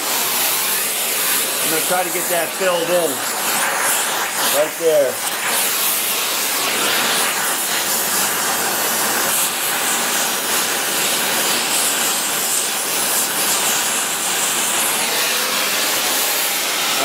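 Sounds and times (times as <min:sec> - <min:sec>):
torch flame hissing: 0:00.0 - 0:17.0.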